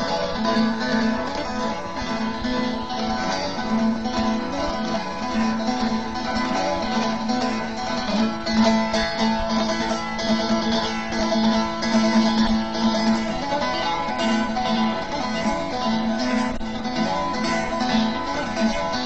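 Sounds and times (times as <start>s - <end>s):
plucked saz melody: 0.0s - 19.0s.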